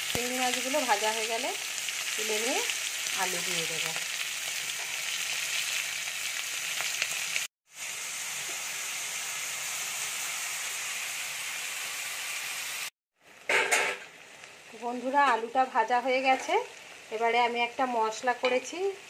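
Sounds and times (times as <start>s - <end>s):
potatoes sizzling in oil: 0.0s - 19.0s
prawns sizzling in hot oil: 0.0s - 19.0s.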